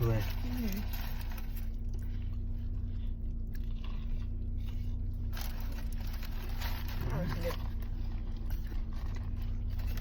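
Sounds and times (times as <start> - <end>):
chewing and crunching: 0.0 - 10.0
steady low hum: 0.0 - 10.0.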